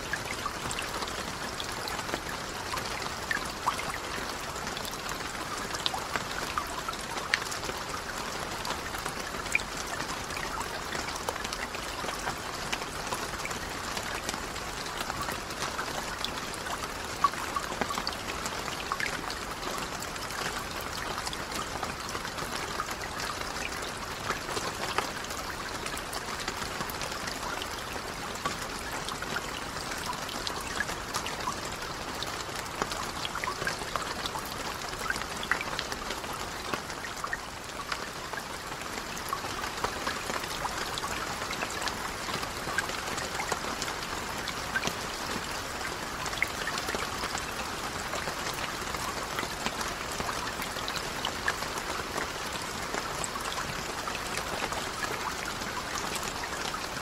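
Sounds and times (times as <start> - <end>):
rain falling on a lake: 0.0 - 57.0.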